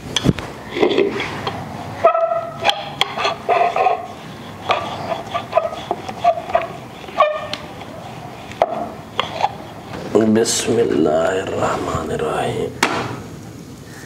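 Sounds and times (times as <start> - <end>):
rolling pin rolling dough: 0.0 - 11.4.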